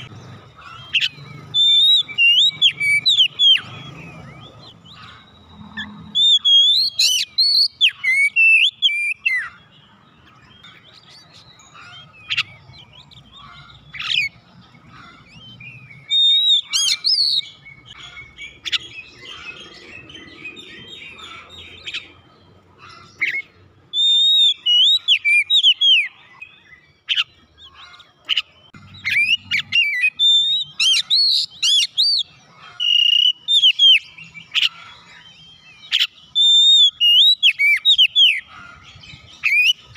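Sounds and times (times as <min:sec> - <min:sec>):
bird whistling song: 0:00.0 - 0:39.9
soft bird twittering: 0:00.0 - 0:39.9.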